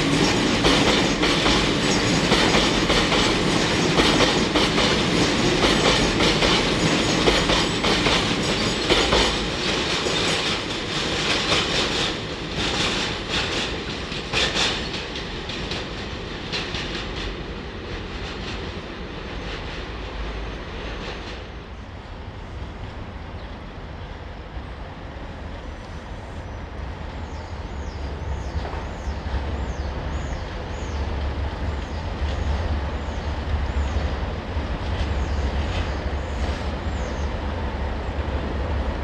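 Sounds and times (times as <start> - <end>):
train running on track: 0.0 - 39.0.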